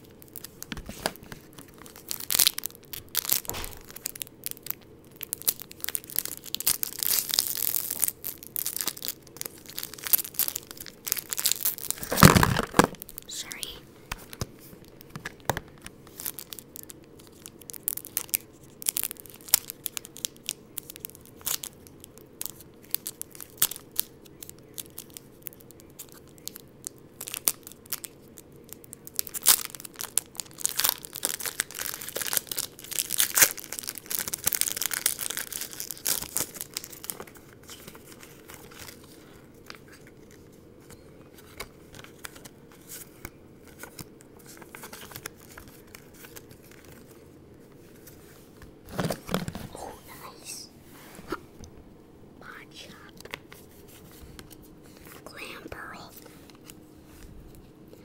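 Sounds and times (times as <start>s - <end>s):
card packaging crinkling and tearing: 0.0s - 50.5s, 52.4s - 57.2s.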